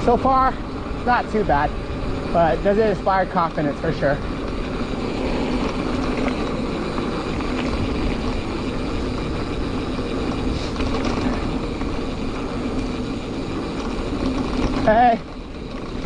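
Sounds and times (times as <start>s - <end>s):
bike rolling on dirt trail: 0.0s - 16.0s
faint mechanical ticks: 1.0s - 16.0s.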